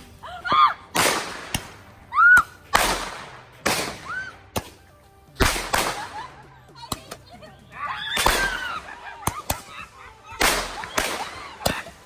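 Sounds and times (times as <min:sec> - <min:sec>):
sharp firework cracks: 0:00.0 - 0:07.2, 0:08.0 - 0:12.0
fireworks blasts: 0:00.0 - 0:12.0.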